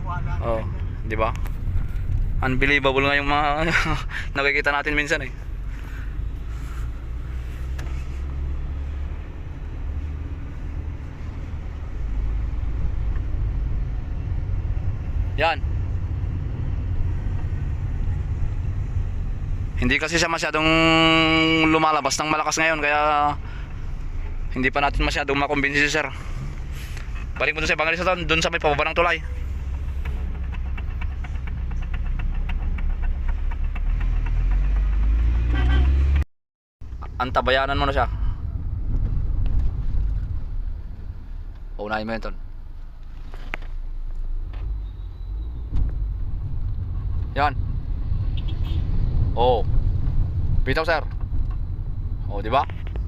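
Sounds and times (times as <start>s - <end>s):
road and engine rumble in car cabin: 0.0s - 36.2s, 36.8s - 53.0s.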